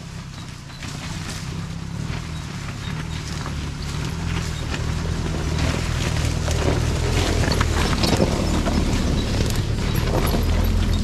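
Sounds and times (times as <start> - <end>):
off-road engine running at low revs: 0.0 - 11.0
stones and leaves crunching under tyres: 0.0 - 11.0.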